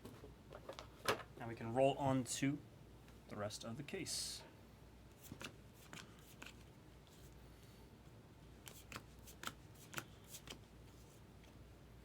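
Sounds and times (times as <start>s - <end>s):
quiet steady hum: 0.0s - 12.0s.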